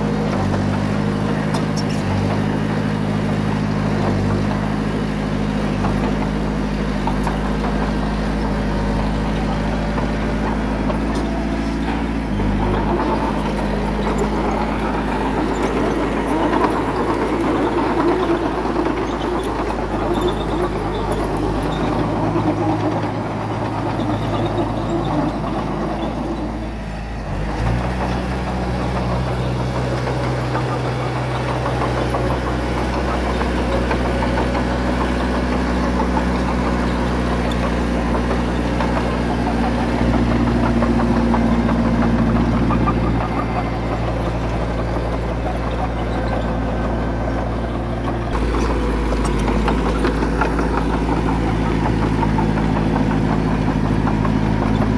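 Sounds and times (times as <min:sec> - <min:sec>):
heavy machinery diesel engine: 0:00.0 - 0:54.9.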